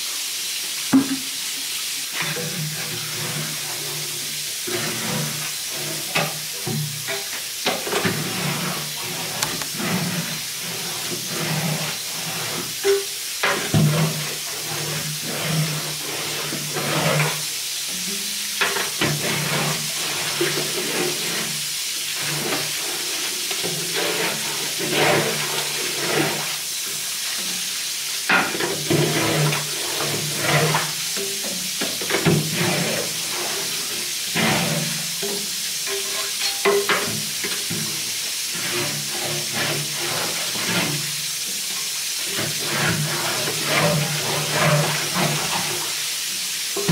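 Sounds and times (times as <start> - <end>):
water hissing from hose: 0.0 - 46.9
scraper scraping steel floor: 2.2 - 17.5, 18.6 - 26.6, 28.3 - 31.0, 32.1 - 37.9, 38.5 - 41.6, 42.3 - 45.9.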